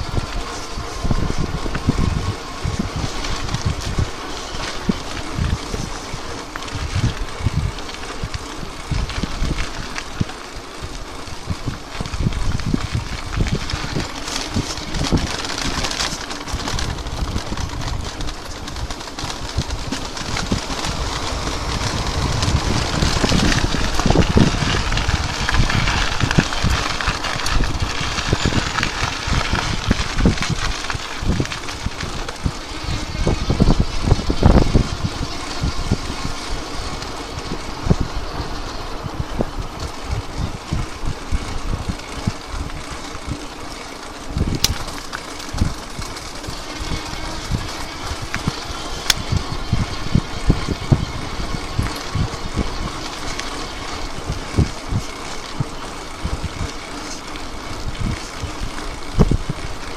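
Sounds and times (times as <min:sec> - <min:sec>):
bike tyres rumbling over rough ground: 0:00.0 - 0:59.9
wind hiss on microphone: 0:00.0 - 0:59.9.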